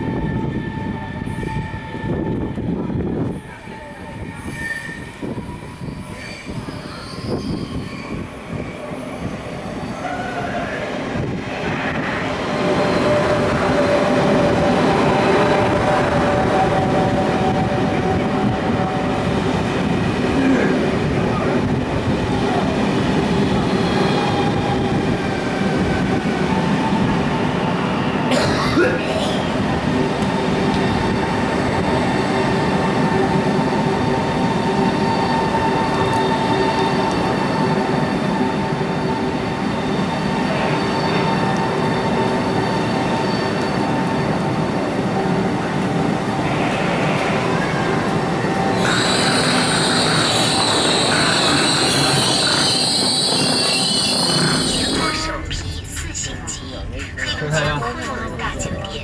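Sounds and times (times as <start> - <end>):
train whining tones: 0.0 - 28.3, 29.0 - 59.0
train rumbling: 0.0 - 59.0.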